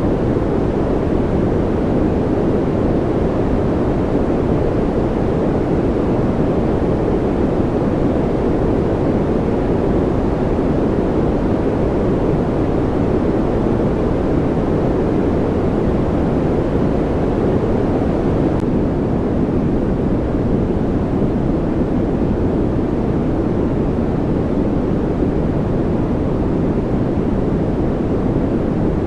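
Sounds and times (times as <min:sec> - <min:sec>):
deep white noise rush: 0:00.0 - 0:29.0.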